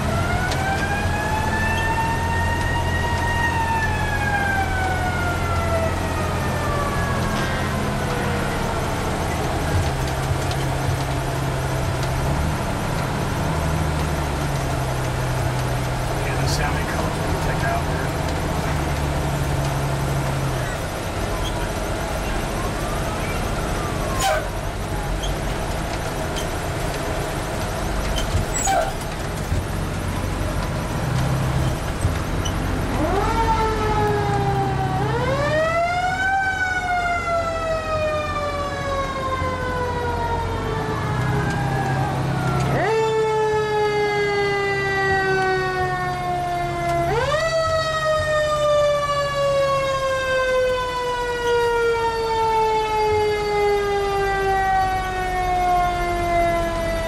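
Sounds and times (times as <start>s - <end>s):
fire truck engine running: 0.0s - 57.0s
fire truck siren wailing: 0.0s - 57.0s.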